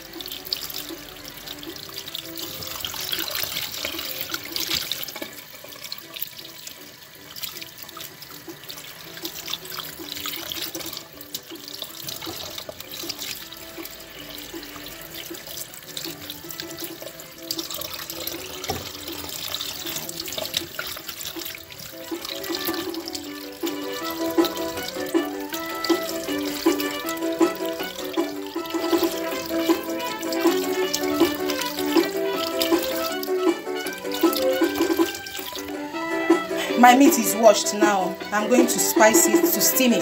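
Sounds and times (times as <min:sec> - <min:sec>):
hands washing meat in bowl: 0:00.0 - 0:40.0
tap water running into sink: 0:00.0 - 0:40.0.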